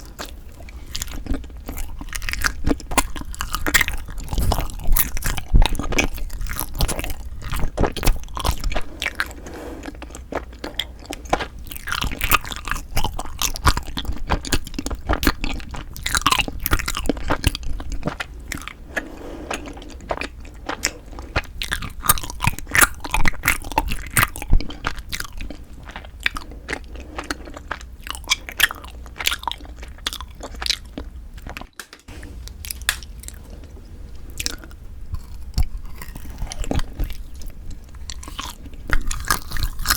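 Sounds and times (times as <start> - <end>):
crunchy chewing and biting: 0.0 - 31.8, 32.4 - 39.9.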